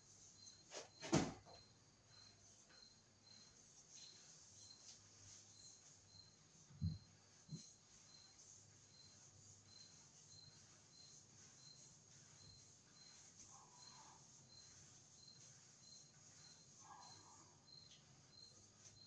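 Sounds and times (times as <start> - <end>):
cricket chirping: 0.1 - 19.0.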